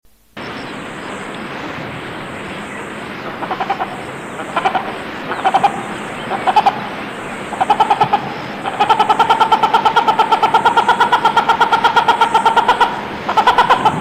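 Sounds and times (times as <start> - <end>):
background hiss: 0.0 - 14.0
hornbill calling: 2.0 - 14.0.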